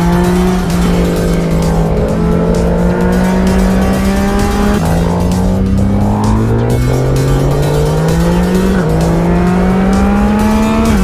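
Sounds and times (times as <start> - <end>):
motorcycle engine while riding: 0.0 - 11.0.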